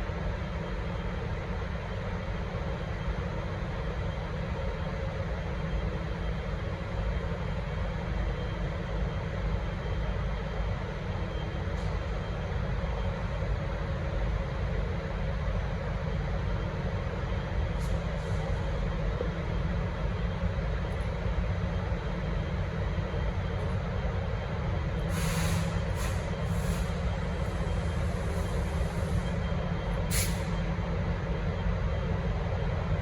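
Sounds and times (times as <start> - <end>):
locomotive engine droning: 4.2 - 33.0.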